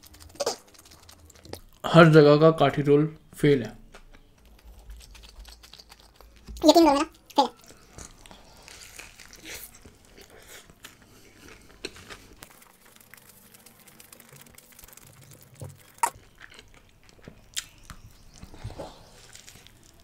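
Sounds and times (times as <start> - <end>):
person chewing: 0.0 - 1.9, 3.9 - 20.0.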